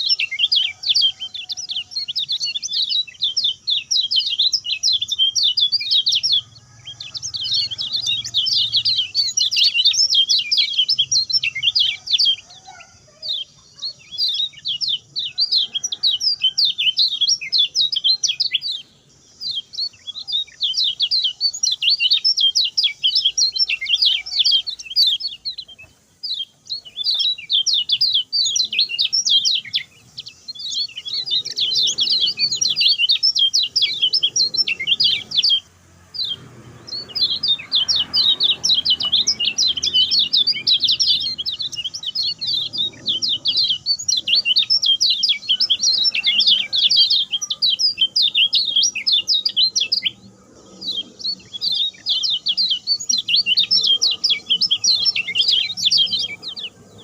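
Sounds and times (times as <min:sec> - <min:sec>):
bird fast chirping song: 0:00.0 - 0:57.0.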